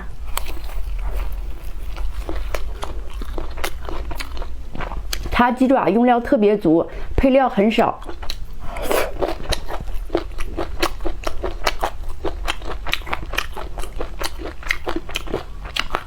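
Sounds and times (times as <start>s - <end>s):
chewing with crisp crunches: 0.0s - 5.7s, 6.9s - 16.0s.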